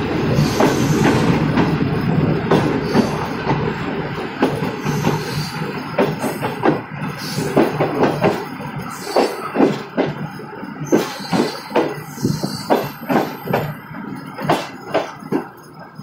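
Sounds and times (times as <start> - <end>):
train running rumble: 0.0 - 16.0
train wheels clattering over rail joints: 0.0 - 16.0.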